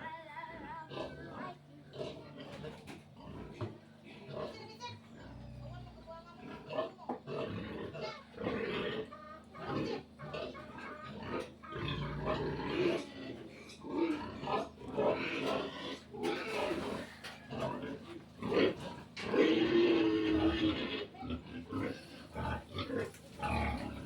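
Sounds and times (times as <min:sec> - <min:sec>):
pigs grunting and squealing: 0:00.0 - 0:24.0.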